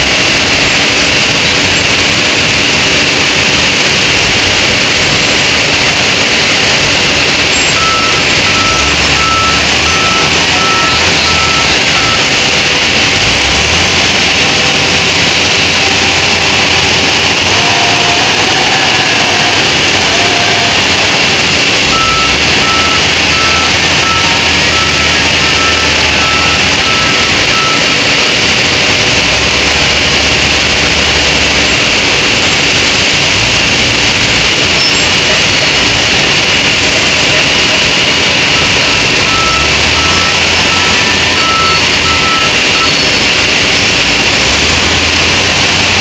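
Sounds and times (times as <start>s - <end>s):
reversing alarm beeping: 0.0s - 32.4s, 33.9s - 46.0s
diesel engine running: 0.0s - 46.0s.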